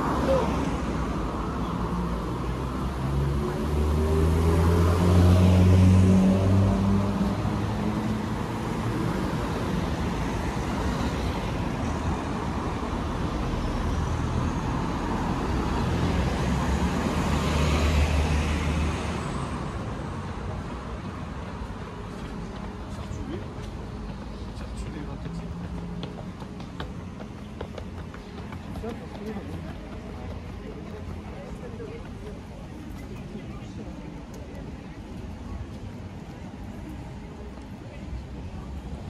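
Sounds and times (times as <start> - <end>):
vehicle engine hum passing: 0.0 - 39.0.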